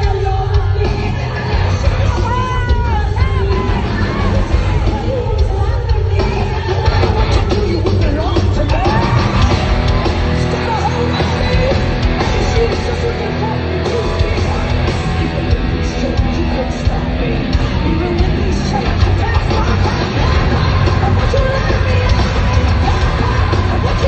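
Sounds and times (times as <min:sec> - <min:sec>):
live heavy metal band: 0:00.0 - 0:24.0.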